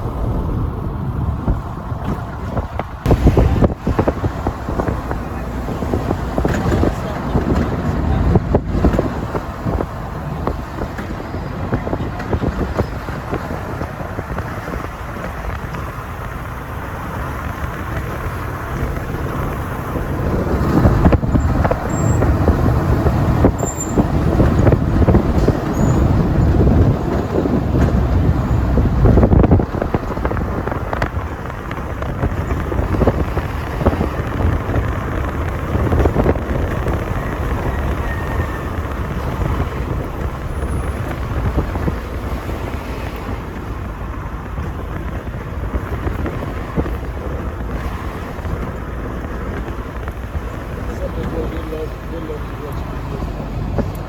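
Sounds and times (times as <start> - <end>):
road rumble: 0.0 - 54.0
vehicle engine: 0.0 - 54.0
wind noise: 0.0 - 54.0.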